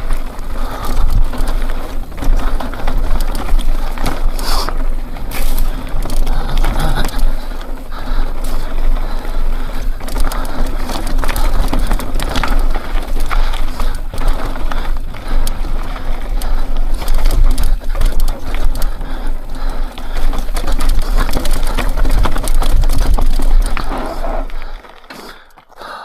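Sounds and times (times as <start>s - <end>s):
mountain bike rattling over rock: 0.0s - 26.0s.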